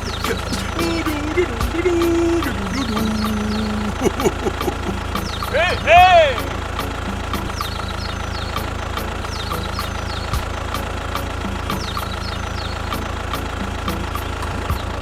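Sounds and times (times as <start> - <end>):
birds chirping: 0.0 - 15.0
tractor engine idling: 0.0 - 15.0.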